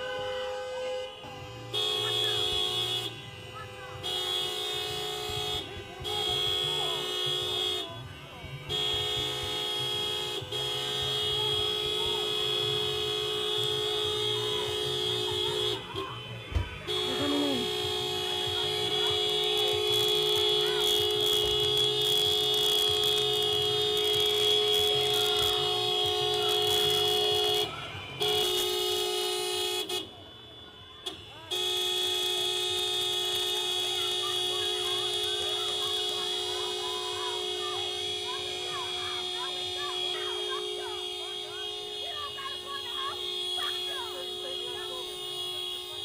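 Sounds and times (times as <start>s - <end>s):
vehicle horn blast: 0.0s - 46.0s.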